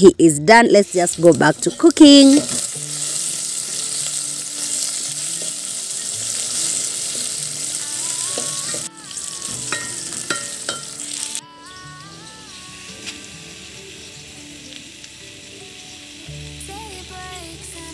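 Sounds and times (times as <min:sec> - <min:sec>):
faint melody: 0:00.0 - 0:17.9
onions sizzling in oil: 0:00.0 - 0:17.9.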